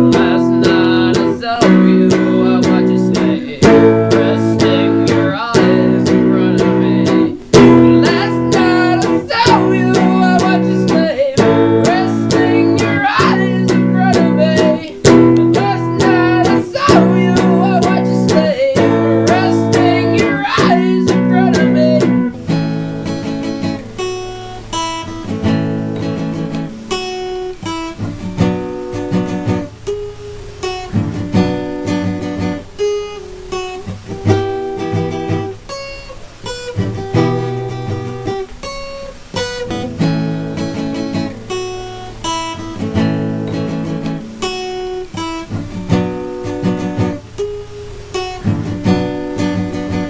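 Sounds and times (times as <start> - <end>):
acoustic guitar strumming: 0.0 - 50.0.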